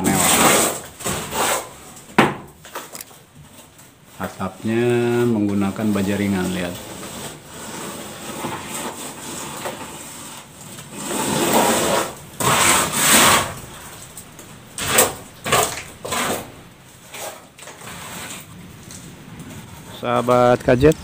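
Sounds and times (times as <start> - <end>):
trowel scraping render on wall: 0.0 - 21.0.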